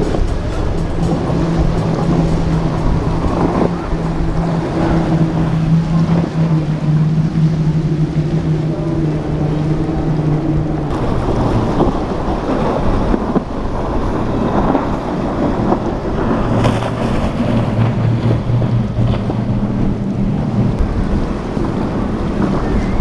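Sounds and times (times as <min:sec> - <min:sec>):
hull rushing through water: 0:00.0 - 0:23.0
outboard motors: 0:00.0 - 0:23.0
wind buffeting microphone: 0:00.0 - 0:23.0.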